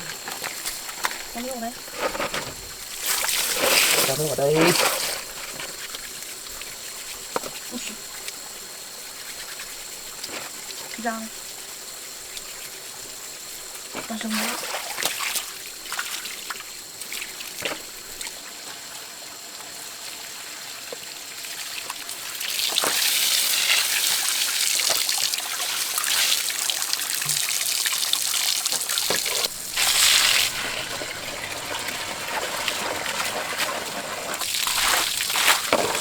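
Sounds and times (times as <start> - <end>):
water trickling and splashing: 2.6 - 36.0.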